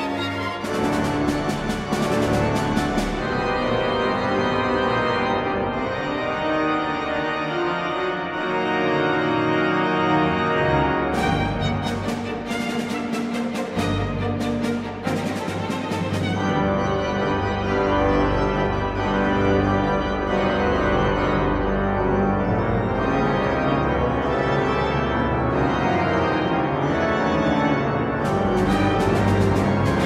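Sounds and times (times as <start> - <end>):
pipe organ chords: 0.0 - 12.5, 16.3 - 30.0.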